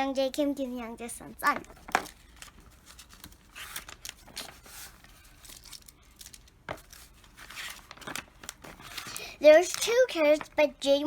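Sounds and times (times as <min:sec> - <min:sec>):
paper rustling and crinkling: 0:01.5 - 0:10.5.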